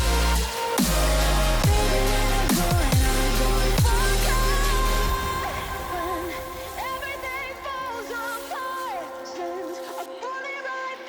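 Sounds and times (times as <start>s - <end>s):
gliding vocal line: 0.0s - 11.0s
pop music with heavy bass: 0.0s - 11.0s.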